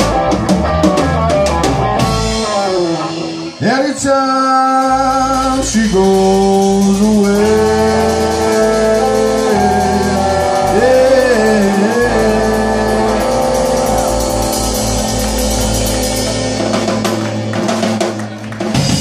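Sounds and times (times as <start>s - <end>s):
drum kit: 0.0s - 4.0s, 4.7s - 19.0s
bass guitar: 0.0s - 19.0s
electric guitar: 0.0s - 19.0s.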